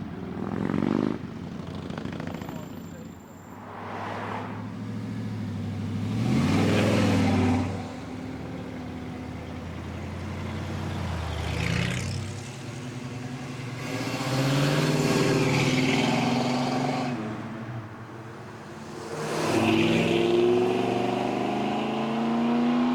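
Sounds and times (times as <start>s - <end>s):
car engines revving: 0.0s - 22.9s.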